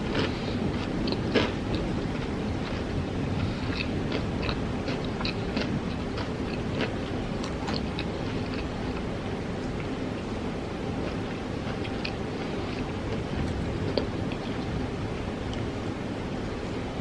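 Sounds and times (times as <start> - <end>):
crunchy chewing: 0.0 - 10.3, 10.9 - 14.7
steady low rumble: 0.0 - 17.0.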